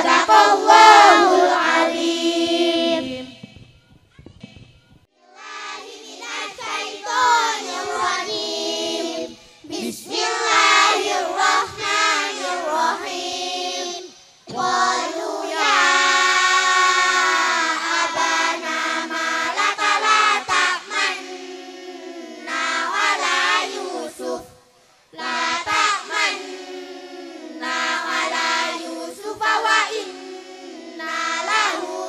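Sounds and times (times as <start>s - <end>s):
girls singing in unison: 0.0s - 3.4s, 5.2s - 32.0s.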